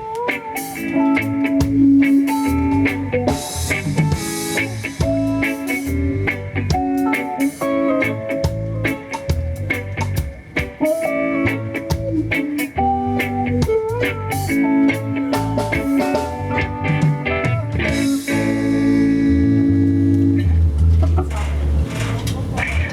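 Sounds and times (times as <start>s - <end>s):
bass guitar: 0.0s - 22.9s
drum kit: 0.0s - 22.9s
electric guitar melody: 0.0s - 22.9s.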